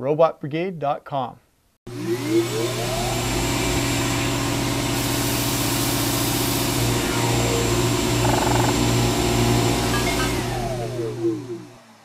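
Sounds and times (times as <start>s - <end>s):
machine drone with tones: 1.9s - 12.0s.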